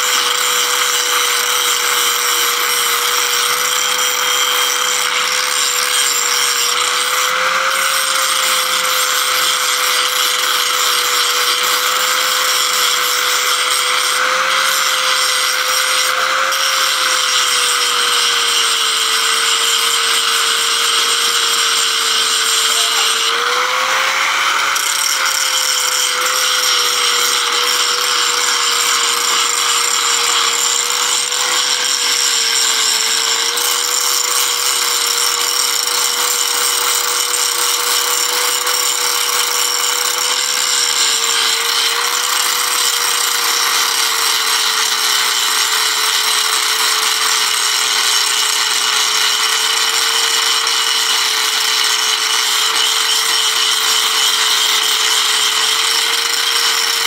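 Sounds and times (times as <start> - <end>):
angle grinder grinding steel: 0.0 - 57.0.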